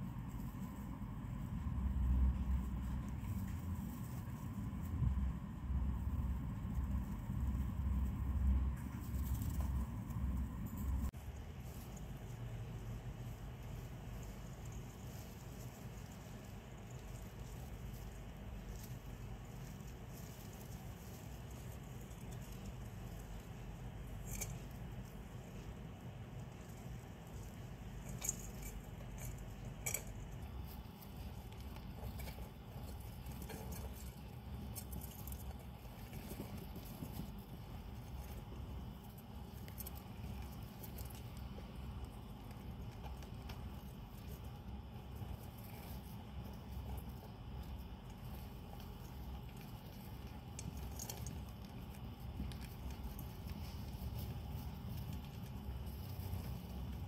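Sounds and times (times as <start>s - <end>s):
hamsters rustling in bedding: 0.0s - 57.0s
low steady hum: 0.0s - 57.0s
low steady rumble: 0.0s - 57.0s.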